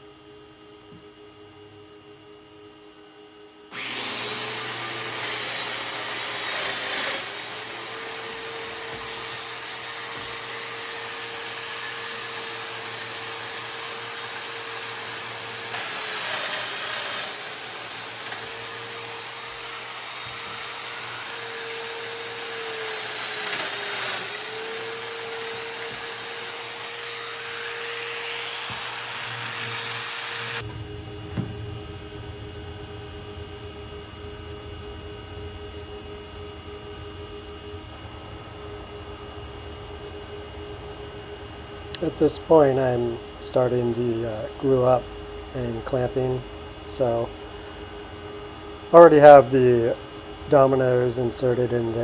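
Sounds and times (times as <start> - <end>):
power joiner whining: 3.7 - 52.0.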